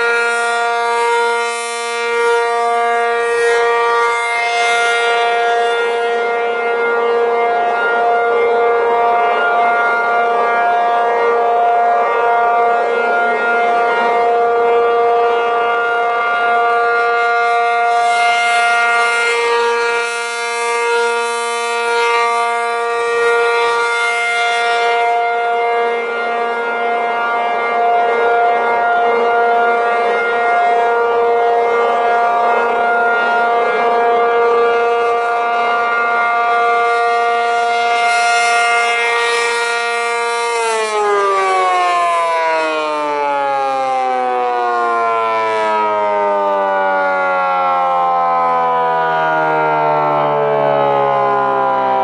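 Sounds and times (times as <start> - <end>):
rotating warning siren chord: 0.0 - 52.0.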